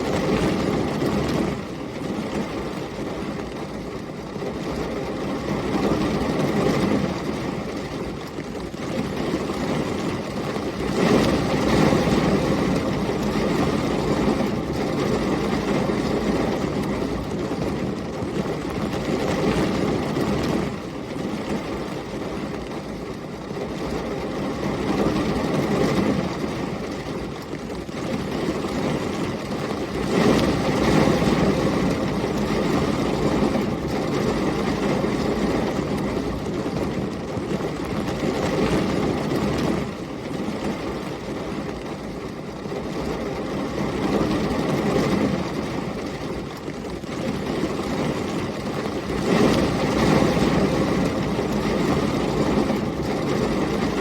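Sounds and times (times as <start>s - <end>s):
heavy rain: 0.0s - 54.0s
storm wind: 0.0s - 54.0s.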